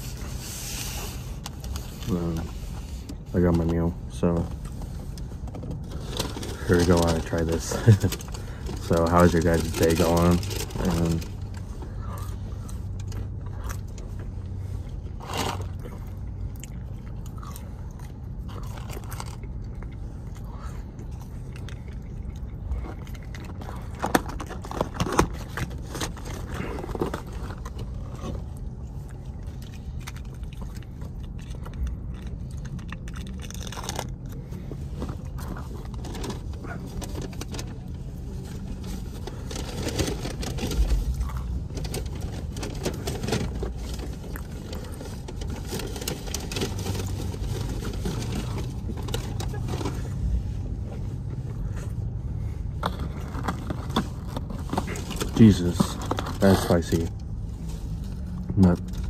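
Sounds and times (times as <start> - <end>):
steady low hum: 0.0 - 59.0
person chewing crunchy food: 7.8 - 55.4.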